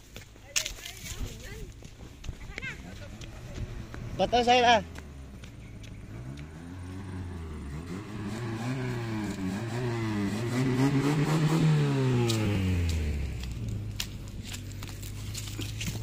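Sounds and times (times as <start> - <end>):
car engine revving: 2.8 - 16.0.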